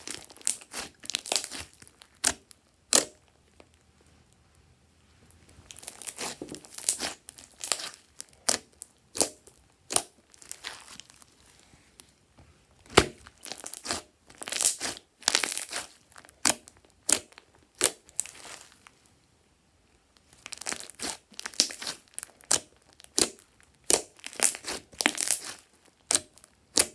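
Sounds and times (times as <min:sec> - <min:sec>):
slime squishing: 0:00.0 - 0:04.5, 0:05.2 - 0:11.7, 0:12.8 - 0:19.0, 0:20.2 - 0:26.9.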